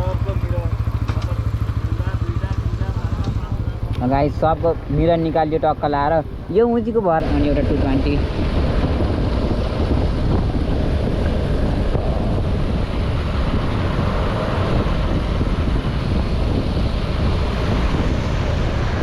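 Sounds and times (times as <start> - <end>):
motorcycle riding: 0.0 - 19.0
wind buffeting microphone: 0.0 - 19.0.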